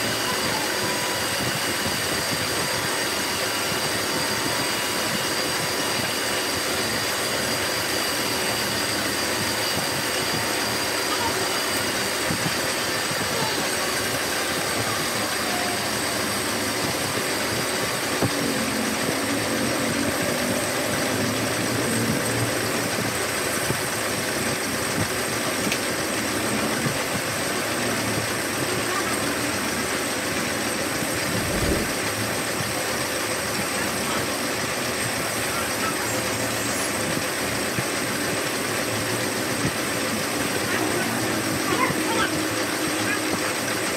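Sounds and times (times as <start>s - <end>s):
metal lathe running: 0.0s - 43.9s.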